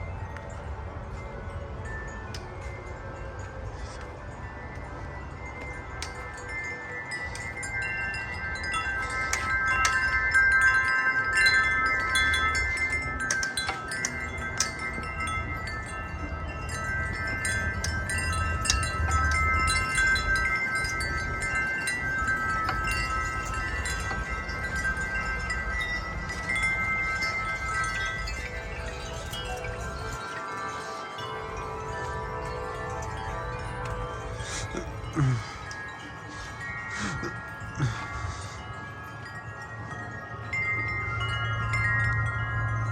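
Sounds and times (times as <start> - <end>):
metal wind chimes ringing: 0.0 - 42.9
wind rumble on microphone: 0.0 - 42.9.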